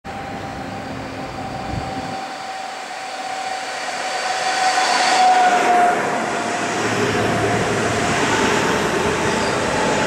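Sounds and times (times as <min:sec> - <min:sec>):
electric train whine: 0:00.1 - 0:10.0
wheels rushing on rails: 0:00.1 - 0:10.0.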